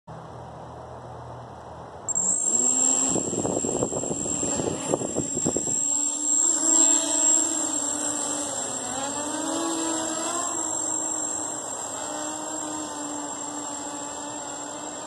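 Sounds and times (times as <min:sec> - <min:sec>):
high-pitched whine: 0:02.1 - 0:15.0
quadcopter motors buzzing: 0:02.1 - 0:15.0.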